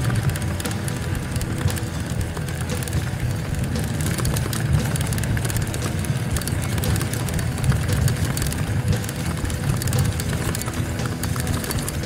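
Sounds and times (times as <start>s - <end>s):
bike clicks and rattles: 0.0s - 12.0s
tyres rolling on gravel: 0.0s - 12.0s.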